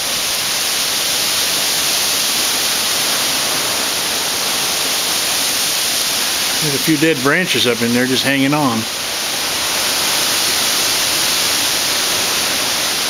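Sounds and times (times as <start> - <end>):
strong wind through trees: 0.0 - 13.0.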